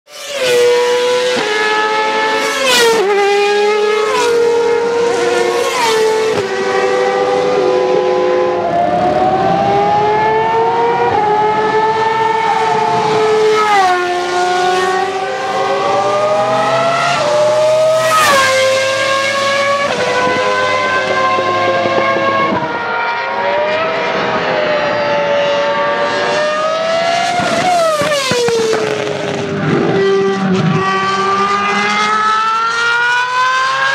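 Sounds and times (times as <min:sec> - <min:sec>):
racing car engine accelerating: 0:00.2 - 0:33.9.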